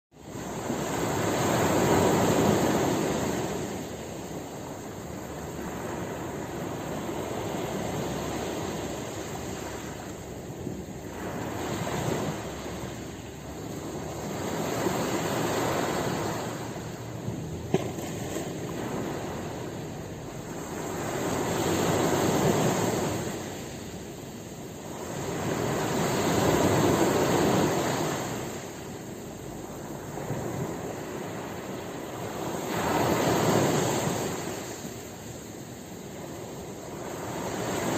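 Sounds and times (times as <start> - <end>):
sea waves washing in: 0.2 - 37.9.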